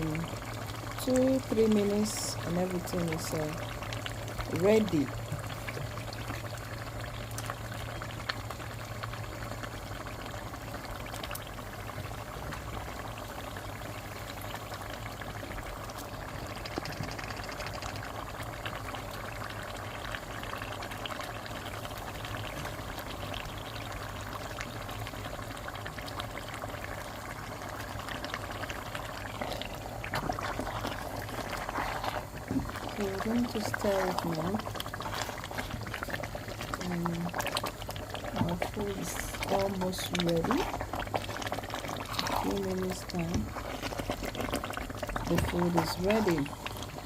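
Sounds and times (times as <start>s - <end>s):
stew boiling in a pot: 0.0s - 47.0s.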